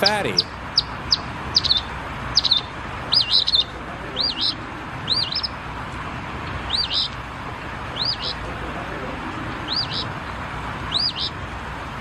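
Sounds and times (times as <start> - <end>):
recorded bird song: 0.0 - 5.7, 6.4 - 11.5.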